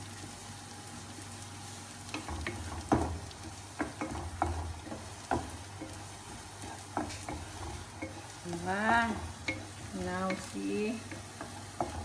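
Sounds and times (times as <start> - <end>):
garlic and onion sizzling in oil: 0.0 - 12.0
utensil scraping and tapping pan: 2.1 - 12.0.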